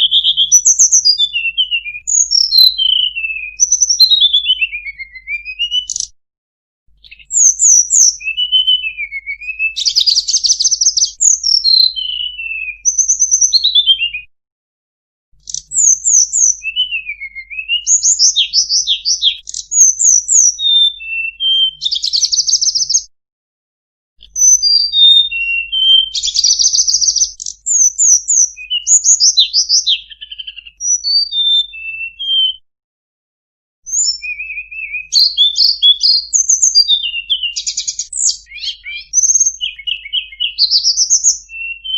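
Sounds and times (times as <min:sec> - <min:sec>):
songbird chirping and trilling: 0:00.0 - 0:06.2, 0:07.0 - 0:14.3, 0:15.4 - 0:23.1, 0:24.2 - 0:32.6, 0:33.9 - 0:41.9.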